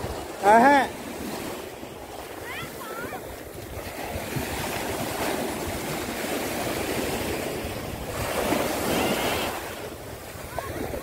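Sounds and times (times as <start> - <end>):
sea waves breaking on sand: 0.0 - 11.0
wind on microphone: 0.0 - 11.0.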